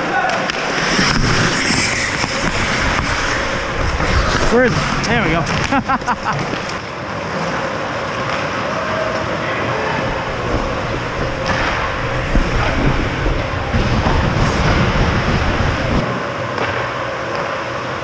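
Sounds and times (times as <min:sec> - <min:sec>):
ice skates rumbling: 0:00.0 - 0:18.0.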